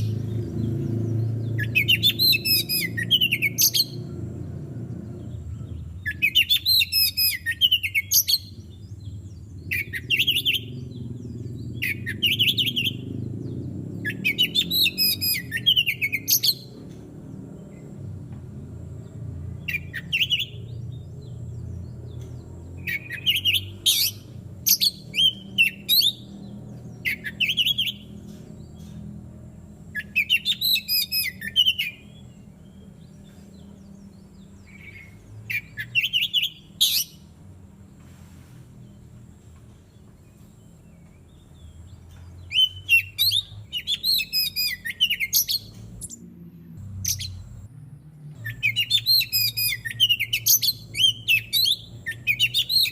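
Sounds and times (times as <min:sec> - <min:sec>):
bird whistling and chattering song: 0:00.0 - 0:04.3, 0:05.2 - 0:17.0, 0:19.6 - 0:29.1, 0:29.8 - 0:37.4, 0:40.4 - 0:46.3, 0:47.0 - 0:47.6, 0:48.4 - 0:52.9.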